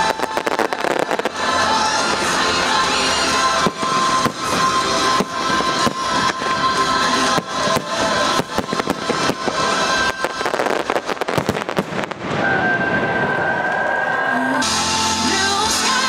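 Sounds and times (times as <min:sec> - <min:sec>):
loud show music: 0:00.0 - 0:12.0, 0:14.5 - 0:16.0
fireworks bangs and crackling: 0:00.0 - 0:15.9.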